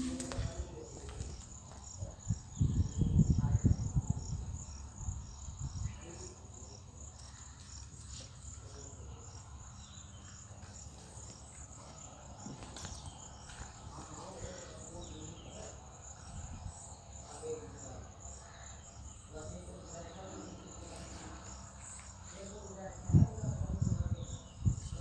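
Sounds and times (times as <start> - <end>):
insect chirping: 0.0 - 25.0.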